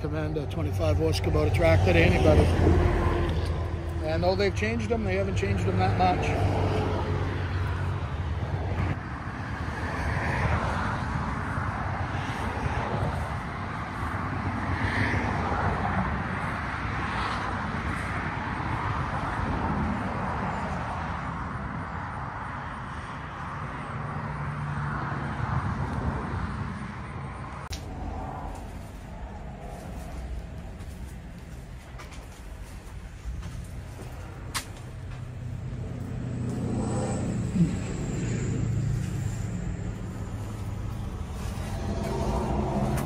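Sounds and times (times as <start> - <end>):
cars passing: 0.0 - 43.0
low traffic rumble: 0.0 - 43.0.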